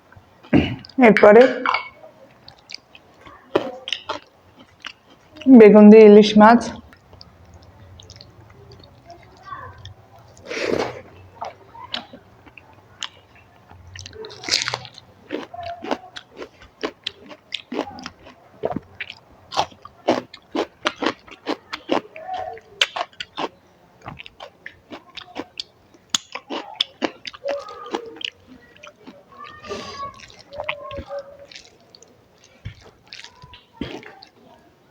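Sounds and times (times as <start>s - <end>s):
person chewing food: 1.7s - 5.5s, 6.8s - 34.7s.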